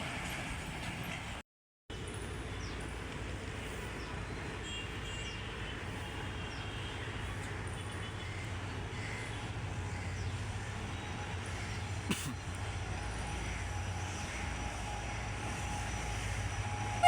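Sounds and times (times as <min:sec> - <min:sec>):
low trackside rumble: 0:00.0 - 0:17.0.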